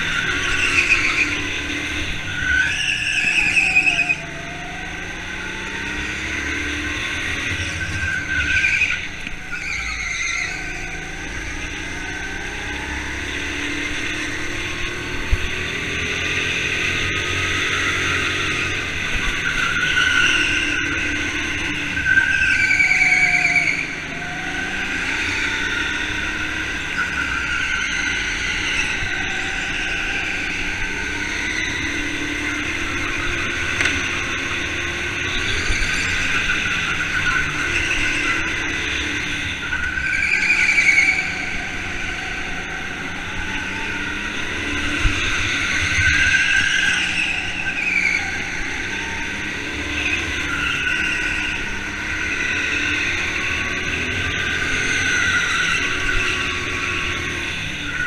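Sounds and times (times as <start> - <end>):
go-kart engine racing: 0.0 - 58.0.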